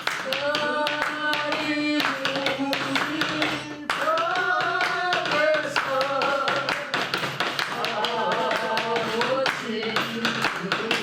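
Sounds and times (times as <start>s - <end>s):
hands clapping in rhythm: 0.0s - 11.0s
people singing: 0.0s - 11.0s.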